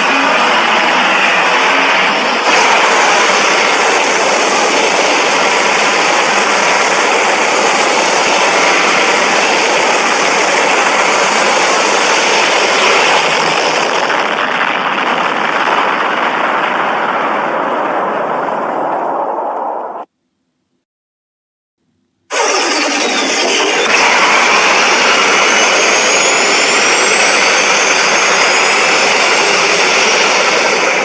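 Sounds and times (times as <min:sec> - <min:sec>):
loud roaring rush of noise: 0:00.0 - 0:20.1, 0:22.3 - 0:31.0.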